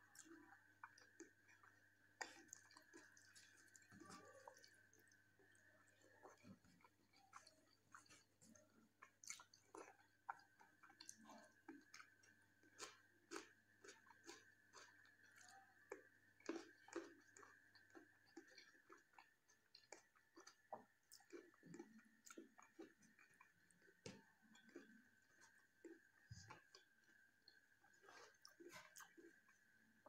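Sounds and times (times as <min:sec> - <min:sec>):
wet chewing: 0:00.0 - 0:30.0.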